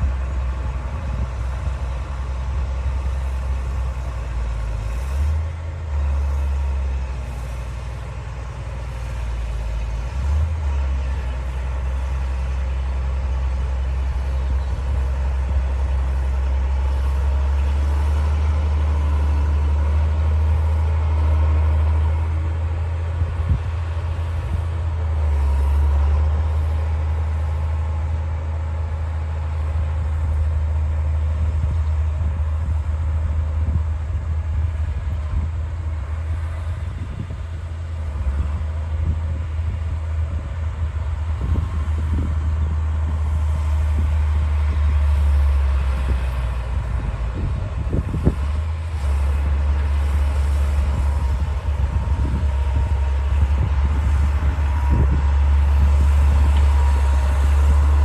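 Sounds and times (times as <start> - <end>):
bulldozer diesel engine rumbling: 0.0 - 58.0.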